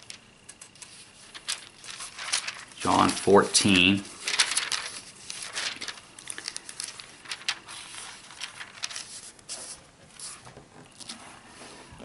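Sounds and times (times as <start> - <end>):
thin pages turning: 0.1 - 11.4.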